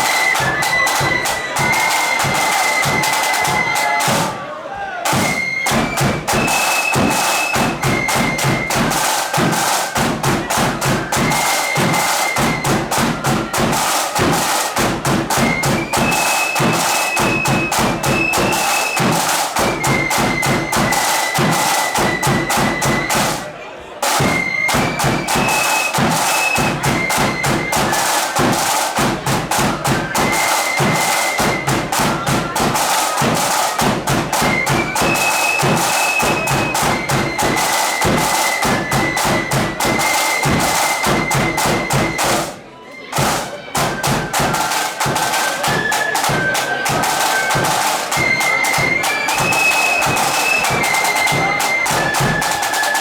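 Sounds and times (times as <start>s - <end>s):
flutes playing marching melody: 0.0s - 53.0s
rapid snare drumming: 0.0s - 53.0s.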